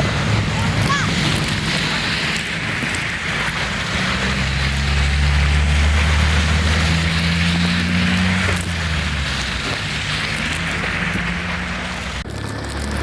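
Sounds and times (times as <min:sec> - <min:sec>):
constant rushing noise: 0:00.0 - 0:13.0
vehicle engine low drone: 0:00.0 - 0:13.0.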